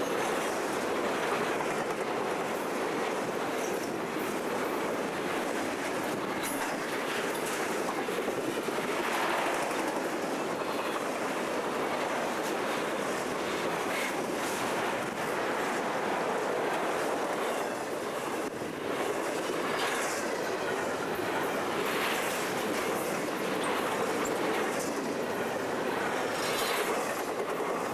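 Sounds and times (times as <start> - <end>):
freight train cars rolling past: 0.0 - 27.9.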